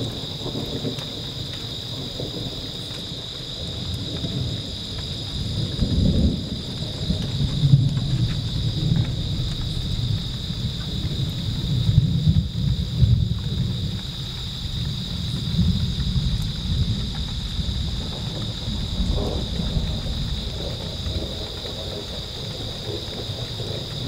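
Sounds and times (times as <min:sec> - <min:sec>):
rain falling: 0:00.0 - 0:24.0
thunder rumbling: 0:00.0 - 0:24.0.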